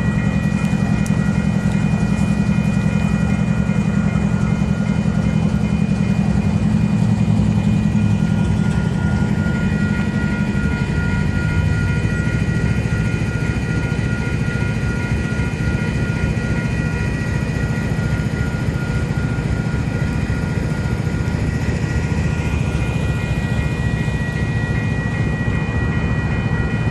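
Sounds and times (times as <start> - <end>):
diesel train engine hum: 0.0 - 26.9.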